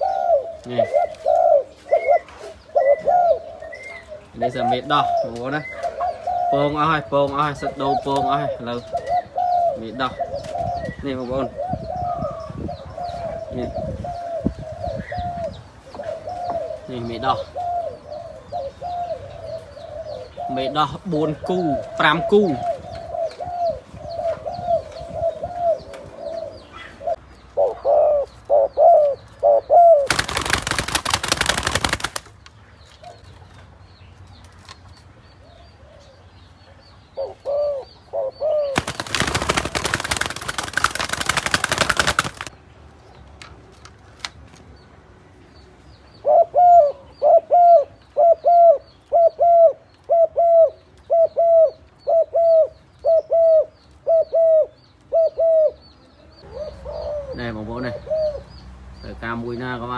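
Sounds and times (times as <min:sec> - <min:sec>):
doves cooing: 0:00.0 - 0:32.2, 0:37.2 - 0:42.5, 0:46.2 - 0:55.8, 0:56.4 - 0:58.5.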